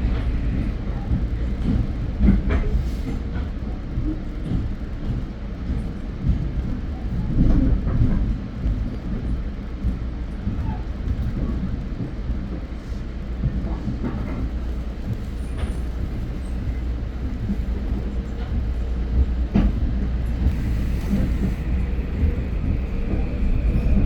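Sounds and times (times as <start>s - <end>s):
train rumble from inside: 0.0s - 24.0s.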